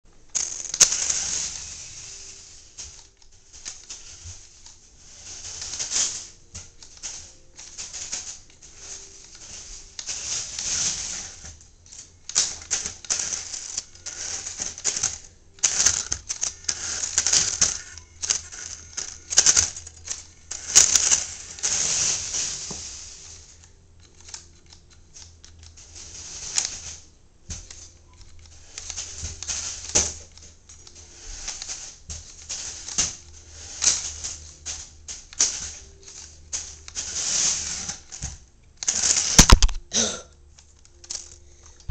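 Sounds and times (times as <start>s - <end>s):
toy truck clicks and clatter: 0.3s - 4.8s, 5.5s - 39.8s, 40.6s - 41.9s.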